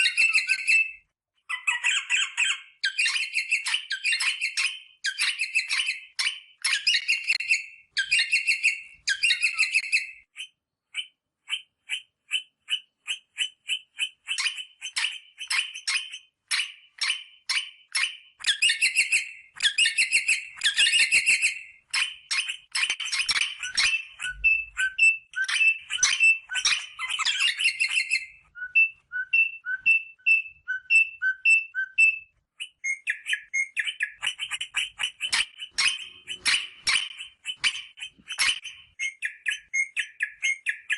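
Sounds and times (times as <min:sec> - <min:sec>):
parrot calling: 0:01.5 - 0:40.9.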